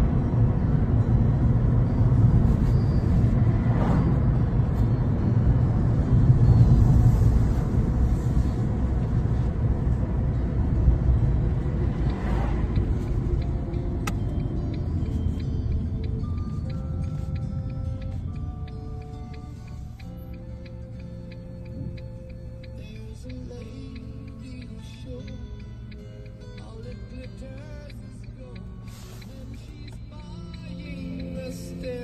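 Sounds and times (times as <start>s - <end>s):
car cabin rumble: 0.0s - 32.0s
faint music with ticking beat: 0.0s - 32.0s.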